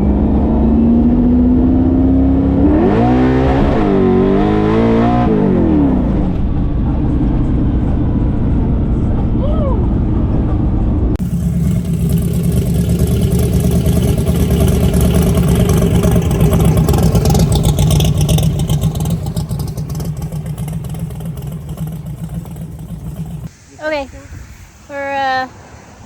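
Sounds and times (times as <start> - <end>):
drag car engine running: 0.0 - 23.5.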